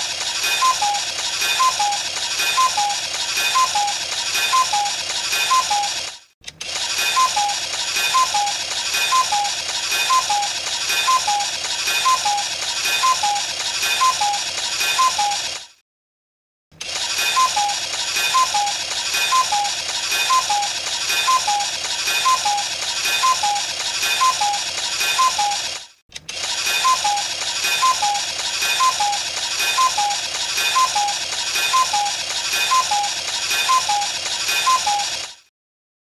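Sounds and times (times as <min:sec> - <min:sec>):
clock mechanism clattering: 0:00.0 - 0:15.8, 0:16.8 - 0:35.5
cuckoo clock call: 0:00.4 - 0:06.0, 0:07.0 - 0:15.5, 0:17.2 - 0:25.7, 0:26.6 - 0:35.2.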